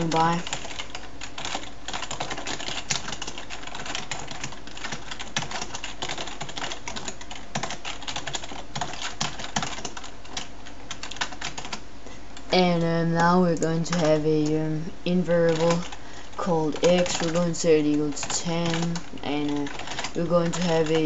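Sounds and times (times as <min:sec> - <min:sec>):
fast keyboard typing: 0:00.0 - 0:11.8, 0:12.4 - 0:21.0.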